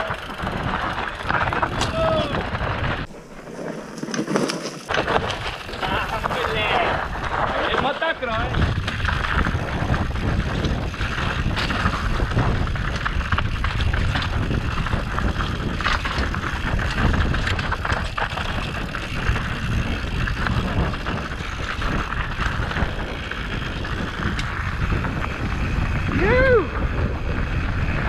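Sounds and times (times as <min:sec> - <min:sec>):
wind rushing over microphone: 0:00.0 - 0:04.0, 0:04.9 - 0:28.0
bike knocking over bumps: 0:00.0 - 0:25.9
bike rattling over ground: 0:00.0 - 0:28.0.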